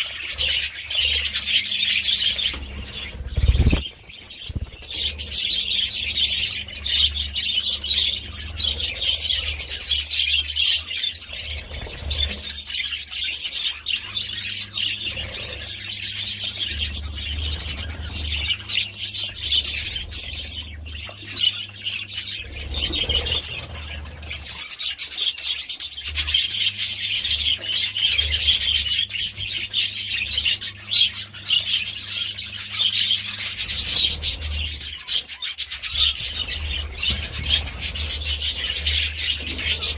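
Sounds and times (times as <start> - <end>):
budgerigars chattering: 0.0 - 39.9
low steady hum: 0.0 - 39.9.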